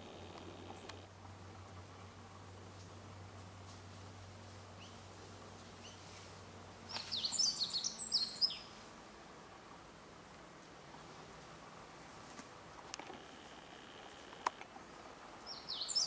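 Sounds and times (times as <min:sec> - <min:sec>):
songbird chirping: 0:00.0 - 0:11.8, 0:12.6 - 0:16.0
faint low hum: 0:00.0 - 0:16.0.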